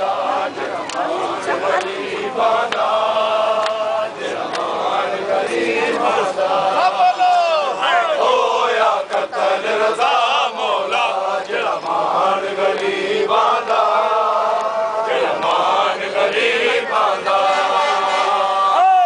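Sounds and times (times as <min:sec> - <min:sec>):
men chanting a mourning lament: 0:00.0 - 0:19.0.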